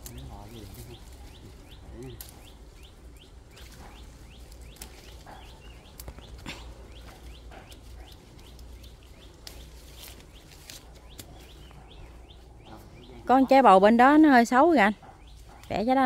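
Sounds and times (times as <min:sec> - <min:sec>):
leaves rustling: 0:00.0 - 0:15.9
small birds chirping: 0:00.0 - 0:16.0.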